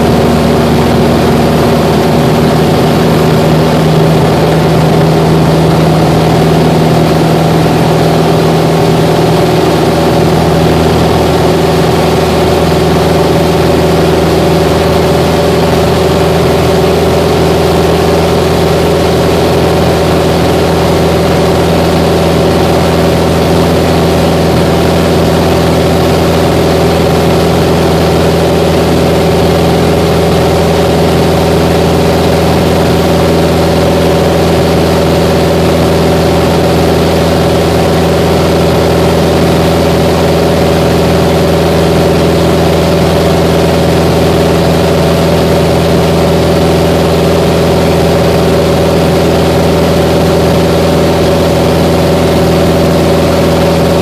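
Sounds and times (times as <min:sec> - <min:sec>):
airplane engine drone: 0:00.0 - 0:54.0.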